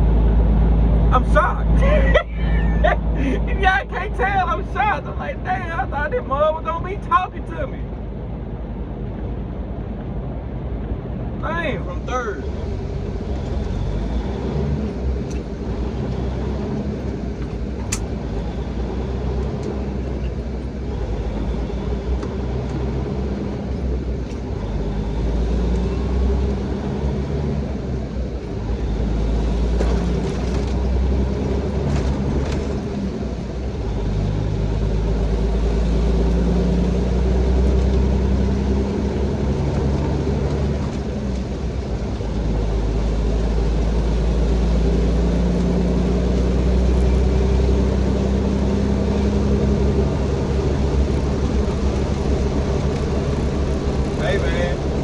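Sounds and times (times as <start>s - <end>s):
diesel truck engine rumble: 0.0s - 55.0s.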